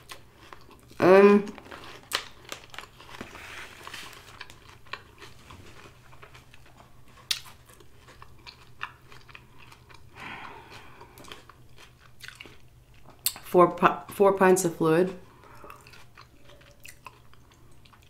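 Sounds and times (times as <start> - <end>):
chewing crisp lettuce: 0.0 - 18.0.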